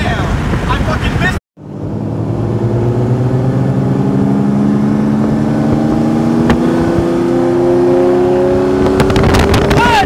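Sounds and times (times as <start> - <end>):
car engine accelerating: 1.6 - 10.0.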